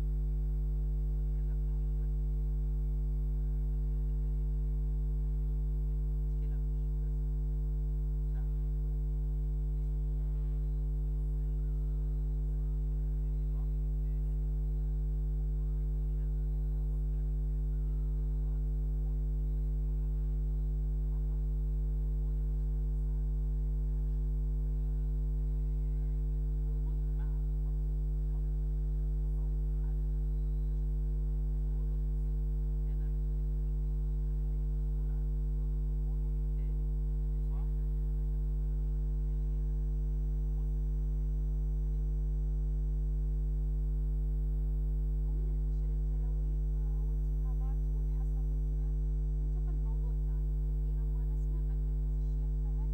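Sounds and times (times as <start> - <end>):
electrical mains hum: 0.0 - 52.9.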